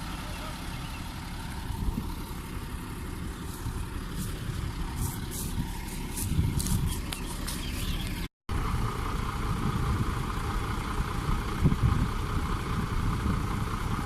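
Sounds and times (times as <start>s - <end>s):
heavy diesel engines running: 0.0s - 14.0s.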